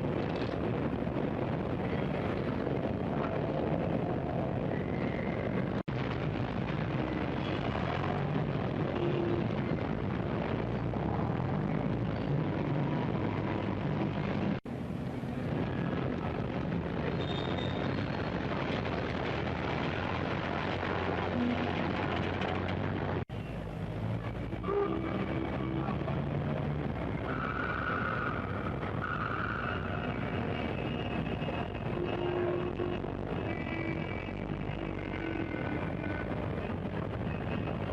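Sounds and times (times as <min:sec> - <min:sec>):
street noise: 0:00.0 - 0:37.9
traffic rumble: 0:00.0 - 0:37.9.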